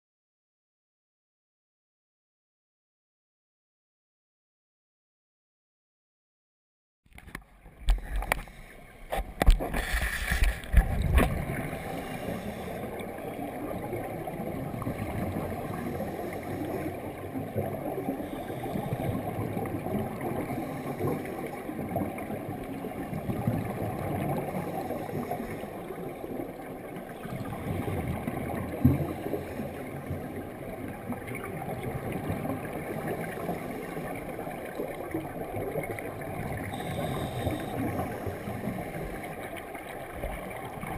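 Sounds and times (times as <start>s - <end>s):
muffled underwater rushing: 7.2s - 40.9s.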